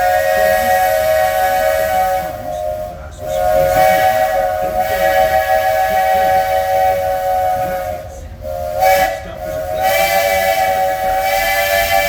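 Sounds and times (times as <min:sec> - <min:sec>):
steam hissing: 0:00.0 - 0:12.0
steam whistle blasts: 0:00.0 - 0:12.0.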